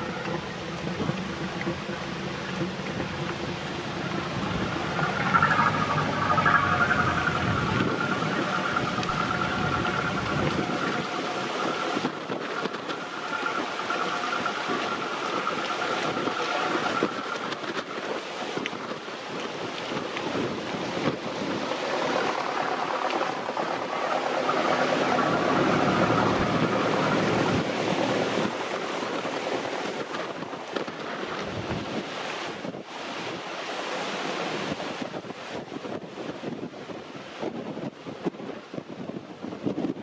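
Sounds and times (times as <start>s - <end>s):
motor boat engine running: 0.0s - 33.4s
wind gusting on microphone: 0.0s - 40.0s.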